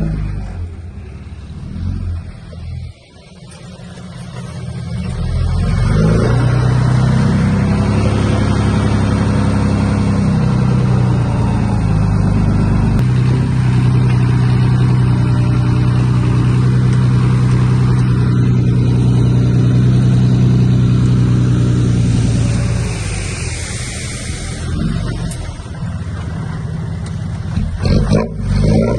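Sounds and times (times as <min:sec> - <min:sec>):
heavy diesel engine revving: 0:00.0 - 0:28.9.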